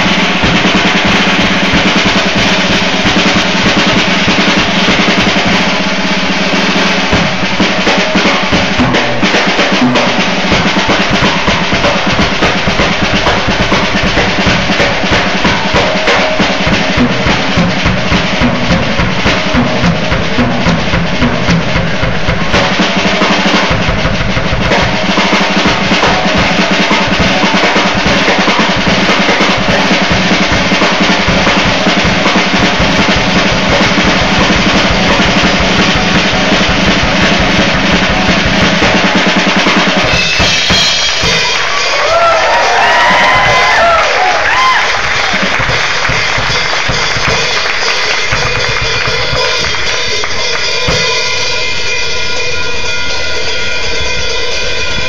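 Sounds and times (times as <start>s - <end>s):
bass drum: 0.0s - 52.0s
drum kit solo: 0.0s - 55.0s.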